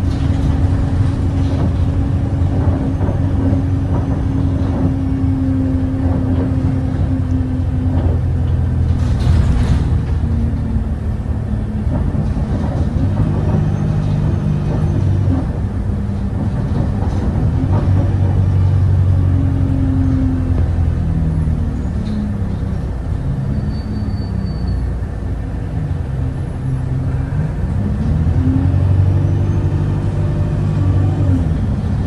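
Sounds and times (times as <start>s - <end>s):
bus diesel engine running: 0.0s - 32.0s.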